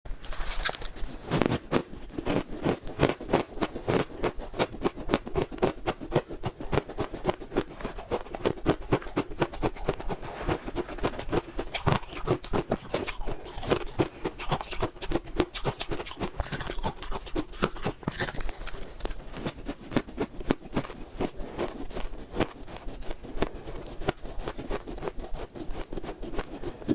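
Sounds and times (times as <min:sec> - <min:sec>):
crunching frost chewing: 0:00.2 - 0:26.9.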